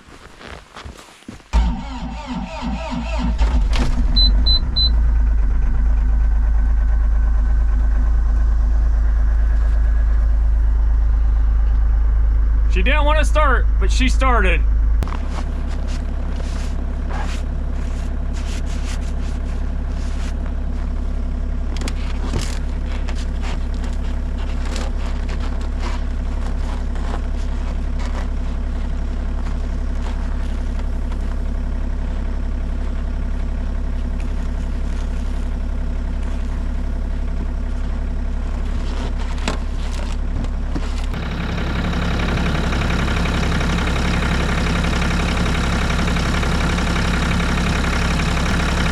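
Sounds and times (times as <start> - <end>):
diesel engine idling: 1.6 - 48.9.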